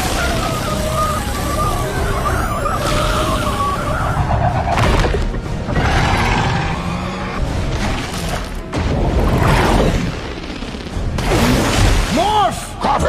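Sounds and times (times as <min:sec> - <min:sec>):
action film music: 0:00.0 - 0:13.0.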